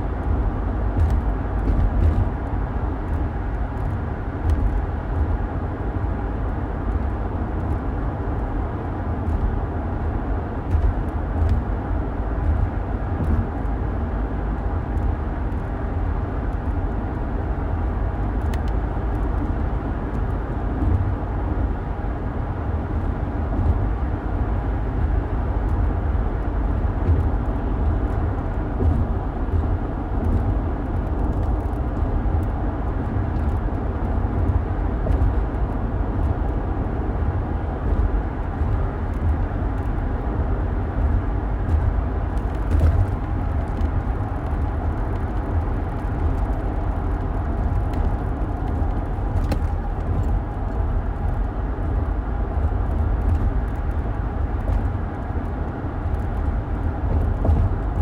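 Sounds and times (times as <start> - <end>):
car road noise from cabin: 0.0 - 58.0.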